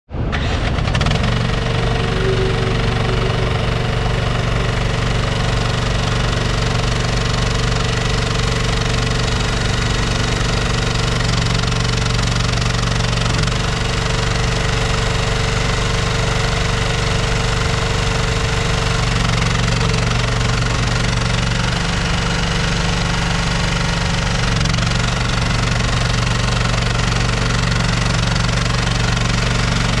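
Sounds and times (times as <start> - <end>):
mini skid steer engine running: 0.3 - 30.0.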